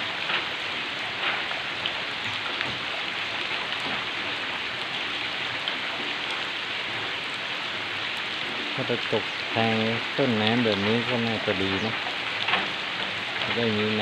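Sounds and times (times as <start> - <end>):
rain drop ticks: 0.0 - 7.3, 7.9 - 14.0
heavy rain hissing: 0.0 - 14.0.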